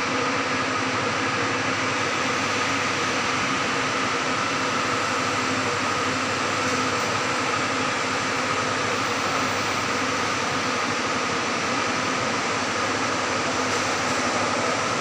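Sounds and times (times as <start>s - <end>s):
steady machinery drone: 0.0s - 15.0s.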